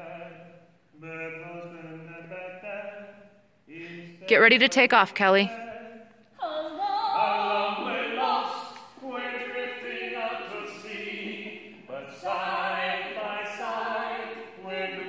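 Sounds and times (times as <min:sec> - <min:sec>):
choir singing long held notes: 0:00.0 - 0:04.2, 0:05.5 - 0:15.0.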